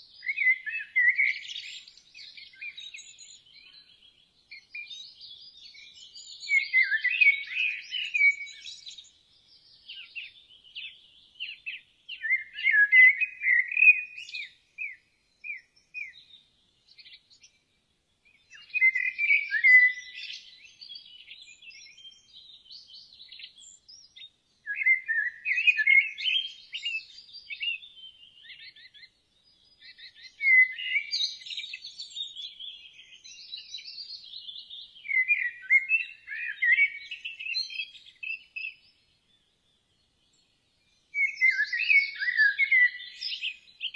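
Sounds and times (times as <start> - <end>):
songbirds chirping: 0.0 - 43.9
birds twittering: 0.2 - 17.6, 18.3 - 43.9.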